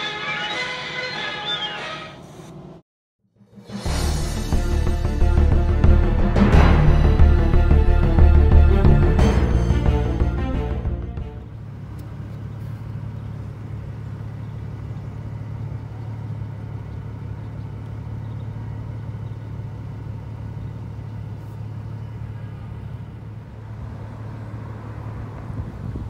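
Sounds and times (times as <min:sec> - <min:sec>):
engine idling hum: 0:03.6 - 0:26.0.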